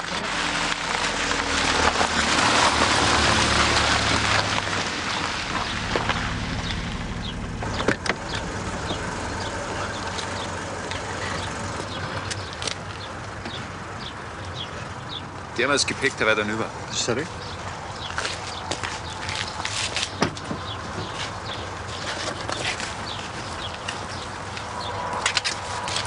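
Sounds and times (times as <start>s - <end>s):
car engine humming: 0.0s - 26.0s
tyres crunching over gravel: 0.0s - 26.0s.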